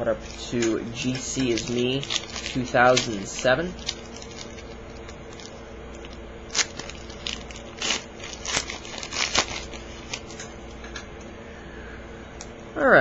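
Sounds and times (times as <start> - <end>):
wrapper crinkling and tearing: 0.1 - 10.8.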